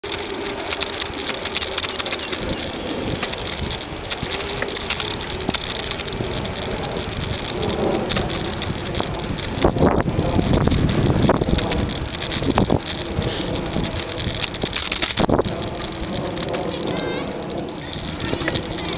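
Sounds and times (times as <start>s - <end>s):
bicycle tyres rolling on path: 0.0s - 18.9s.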